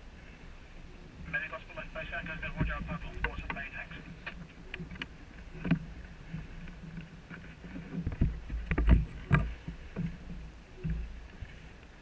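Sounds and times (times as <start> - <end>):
water slapping against hull: 1.3 - 12.0.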